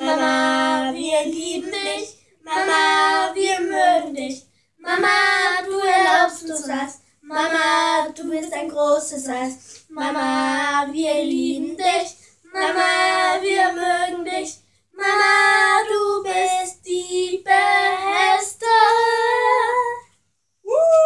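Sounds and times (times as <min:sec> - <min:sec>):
girls singing unaccompanied: 0:00.0 - 0:20.2.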